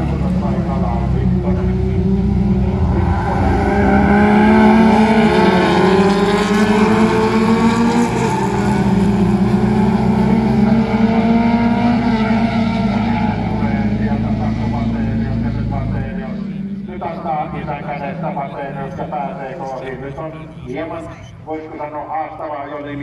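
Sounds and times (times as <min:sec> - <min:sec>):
cars passing by: 0:00.0 - 0:21.0
race car engines revving: 0:00.0 - 0:23.0.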